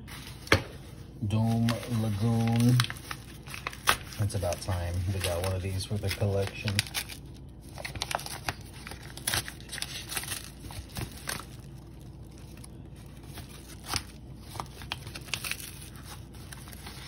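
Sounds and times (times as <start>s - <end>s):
paper mailer tearing and crinkling: 0.0s - 17.0s.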